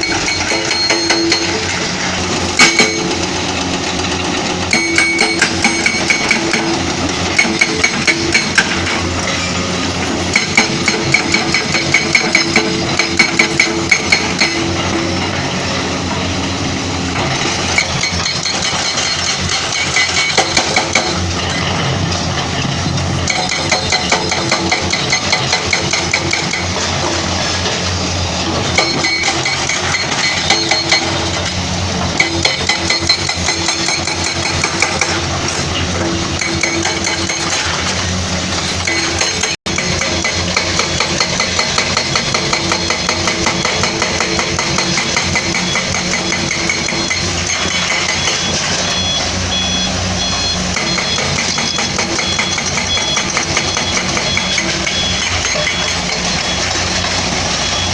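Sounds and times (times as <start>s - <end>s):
hydraulic breaker hammering rock: 0.0s - 16.3s, 17.1s - 49.1s, 50.2s - 57.9s
excavator diesel engine: 0.0s - 57.9s.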